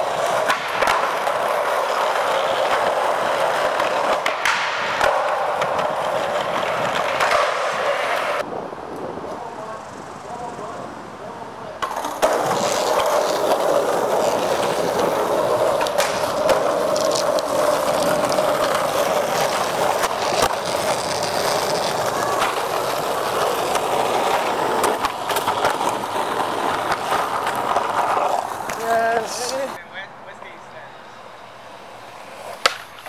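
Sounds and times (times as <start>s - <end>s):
skateboard clacks: 0.0s - 9.0s, 11.8s - 29.8s, 32.3s - 33.0s
skateboard wheels rolling on concrete: 0.0s - 33.0s.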